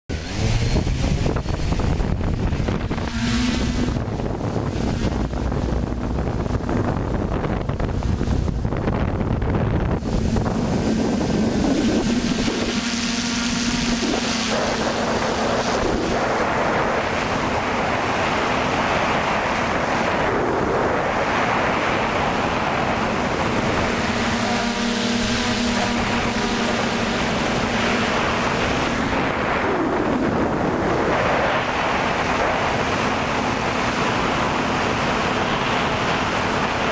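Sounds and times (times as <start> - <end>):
drone propellers buzzing: 0.1 - 36.9
propeller wash on microphone: 0.1 - 36.9.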